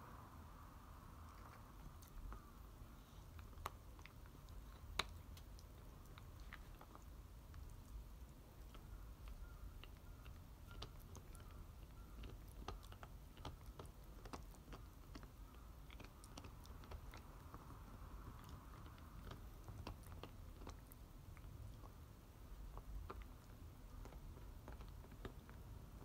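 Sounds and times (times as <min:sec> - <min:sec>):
dog teeth clicking on bone: 0:03.3 - 0:07.9, 0:08.6 - 0:22.0, 0:22.6 - 0:25.6.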